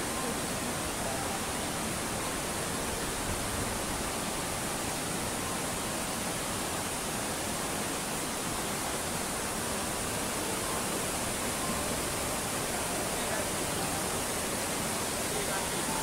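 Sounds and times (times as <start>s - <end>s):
waterfall rushing into pool: 0.0s - 16.0s.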